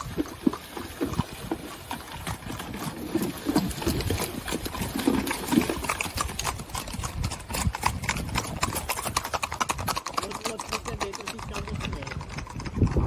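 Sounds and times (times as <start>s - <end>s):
horse hooves on gravel: 0.0s - 13.0s.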